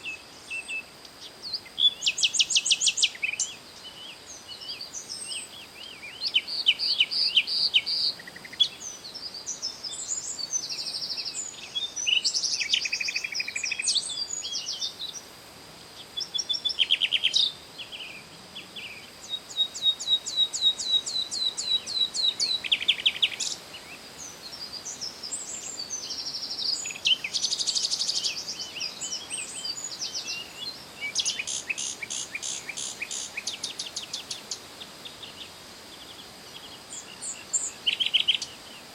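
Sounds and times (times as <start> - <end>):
faint steady hiss: 0.0 - 38.9
songbirds singing: 0.0 - 38.9.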